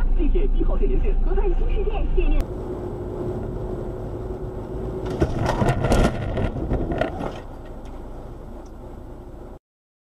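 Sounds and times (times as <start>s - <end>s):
car engine rumble inside cabin: 0.0s - 9.6s.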